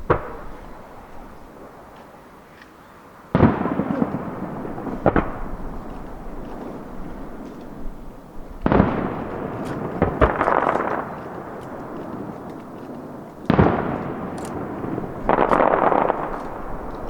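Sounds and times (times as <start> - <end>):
firework booms: 0.0 - 1.9, 3.3 - 12.4, 13.4 - 17.0
firework crackling: 0.0 - 17.0
firework cracks: 0.0 - 17.0.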